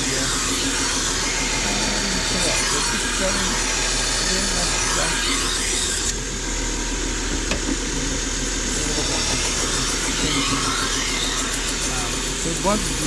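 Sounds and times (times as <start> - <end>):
belt grinder motor running: 0.0 - 13.0
grinder belt hissing: 0.0 - 13.0.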